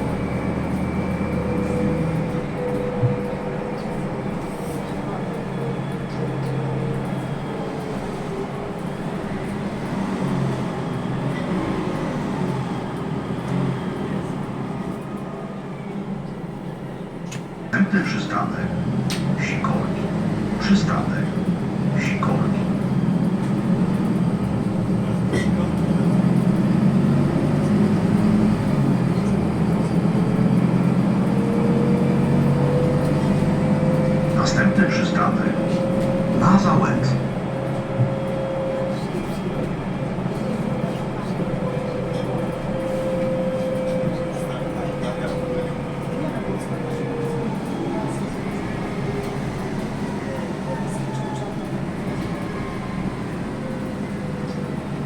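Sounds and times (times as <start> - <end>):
bus engine humming: 0.0 - 55.0.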